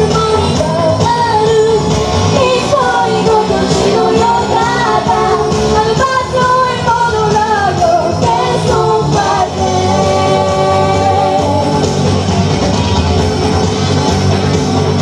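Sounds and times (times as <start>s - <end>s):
girls singing a pop song: 0.0s - 12.1s
backing music: 0.0s - 15.0s.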